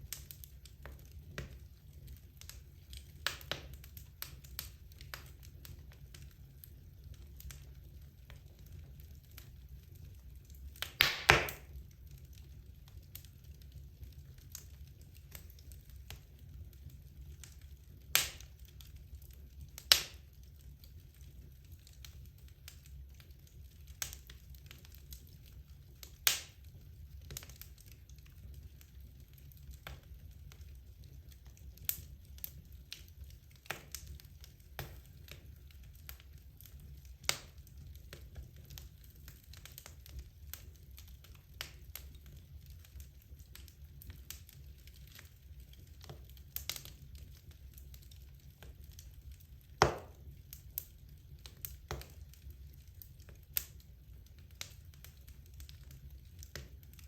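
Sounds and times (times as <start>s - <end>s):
fire popping and cracking: 0.0s - 57.0s
logs burning in a fireplace: 0.0s - 57.0s.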